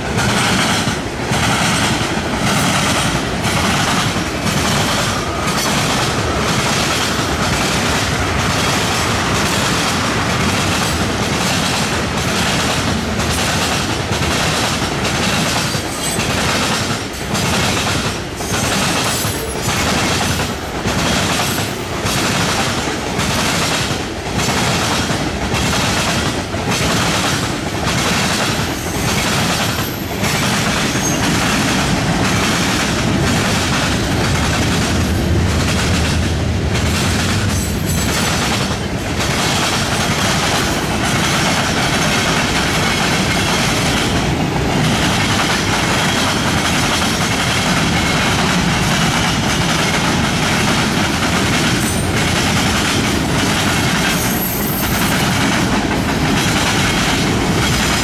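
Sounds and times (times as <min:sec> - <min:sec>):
freight train wheels clacking: 0:00.0 - 0:58.0.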